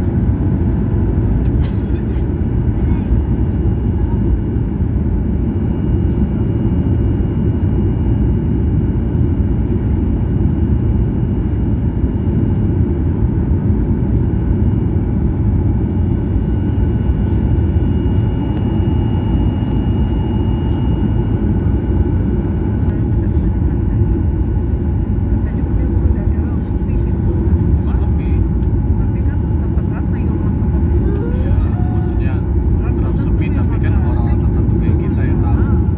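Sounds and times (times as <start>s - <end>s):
airliner cabin engine rumble: 0.0s - 35.9s.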